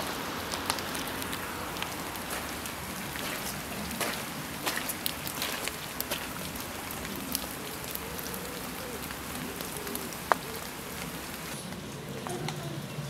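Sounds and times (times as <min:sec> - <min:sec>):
drips and ticks: 0:00.0 - 0:13.0
rain falling on paved path: 0:00.0 - 0:13.0.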